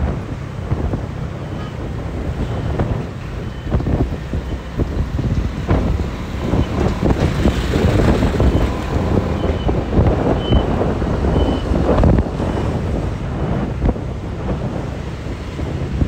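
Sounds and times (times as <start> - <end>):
bus passing: 0.0 - 16.0
truck passing: 0.0 - 16.0
wind on microphone: 0.0 - 16.0.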